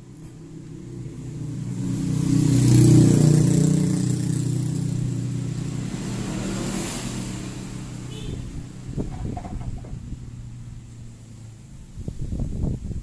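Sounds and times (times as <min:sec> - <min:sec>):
passing vehicle engine: 0:00.0 - 0:13.0.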